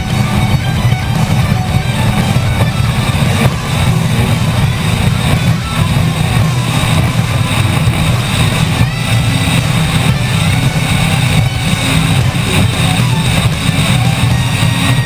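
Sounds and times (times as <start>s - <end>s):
powerboat engines droning: 0.0s - 15.0s
wind on microphone: 0.0s - 15.0s.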